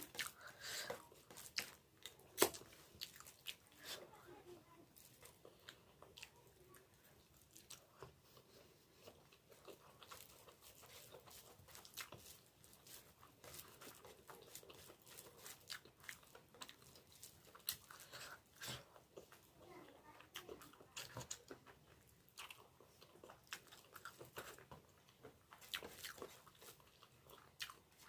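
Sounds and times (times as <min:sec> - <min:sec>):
crunchy chewing and biting: 0:00.0 - 0:03.8, 0:07.3 - 0:19.4, 0:20.3 - 0:28.0.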